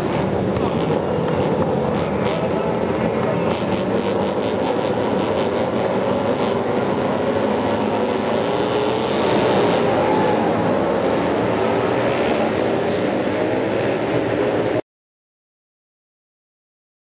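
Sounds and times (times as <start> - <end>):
racing motorcycle engines at speed: 0.0 - 14.8.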